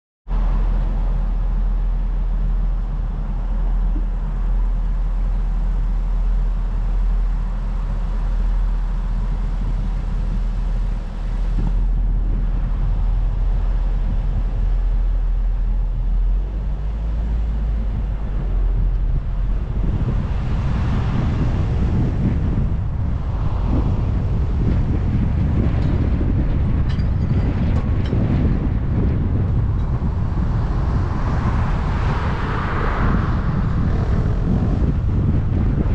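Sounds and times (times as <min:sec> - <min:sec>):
car tyres and engine rumble: 0:00.3 - 0:35.9
wind on microphone: 0:00.3 - 0:35.9.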